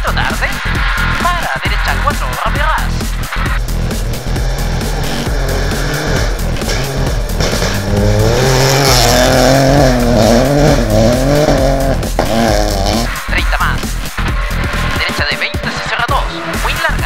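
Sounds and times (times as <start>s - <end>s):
music: 0.0s - 17.0s
rally car engine revving: 0.0s - 17.0s.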